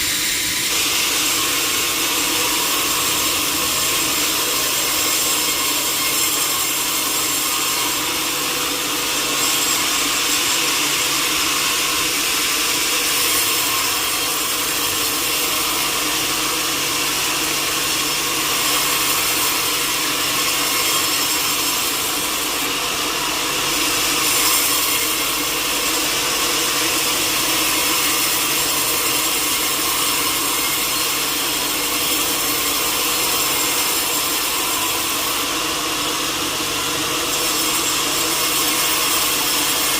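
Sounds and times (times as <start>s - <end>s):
saw cutting wood: 0.0s - 39.9s.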